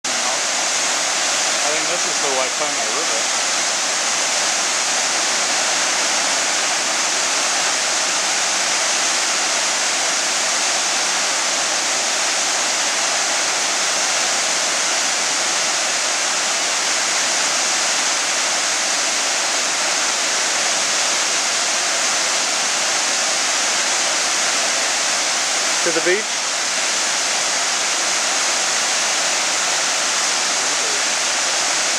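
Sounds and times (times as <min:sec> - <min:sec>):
waterfall pouring onto rocks: 0:00.1 - 0:31.9.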